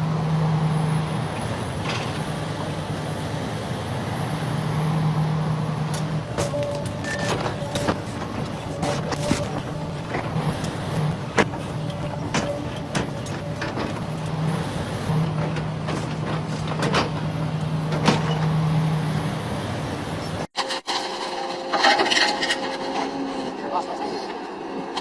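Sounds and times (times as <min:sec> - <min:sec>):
engine running steadily: 0:00.0 - 0:20.5.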